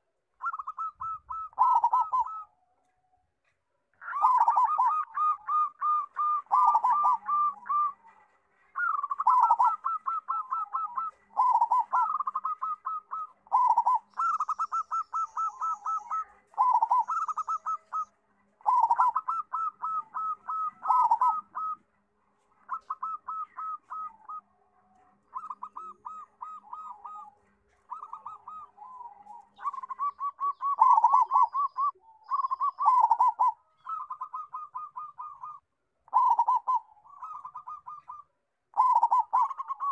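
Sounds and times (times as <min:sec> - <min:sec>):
dove cooing: 0:00.0 - 0:03.0, 0:04.0 - 0:39.9.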